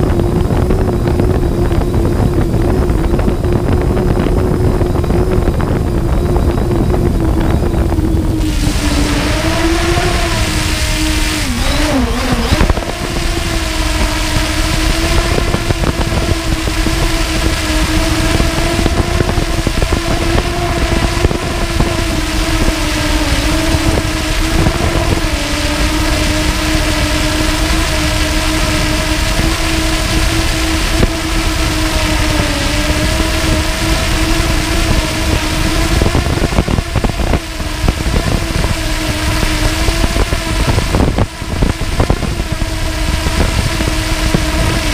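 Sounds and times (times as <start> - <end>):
drone propellers buzzing: 0.0 - 44.9.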